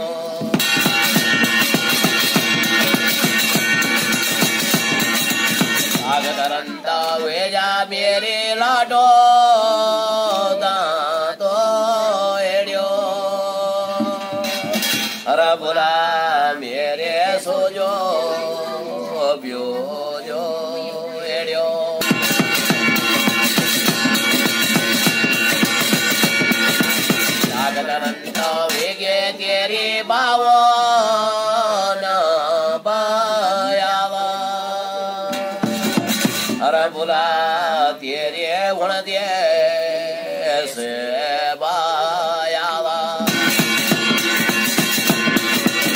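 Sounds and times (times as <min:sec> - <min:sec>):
man singing a chant: 0:00.0 - 0:04.8, 0:05.7 - 0:25.3, 0:26.2 - 0:45.9.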